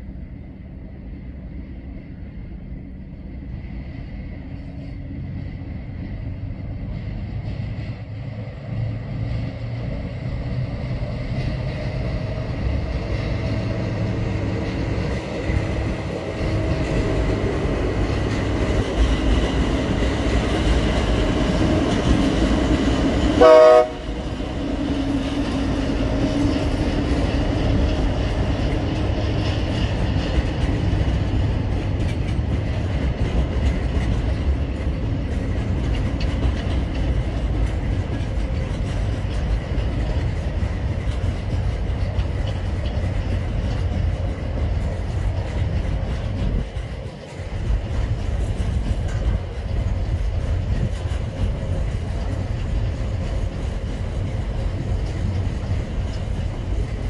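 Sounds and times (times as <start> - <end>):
freight train rumbling on bridge: 0.0 - 57.0
train wheel clatter: 2.8 - 57.0.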